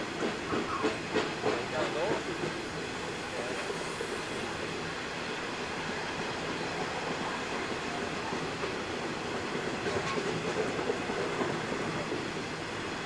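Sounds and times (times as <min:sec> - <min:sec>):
train wagons rolling on rails: 0:00.0 - 0:13.0.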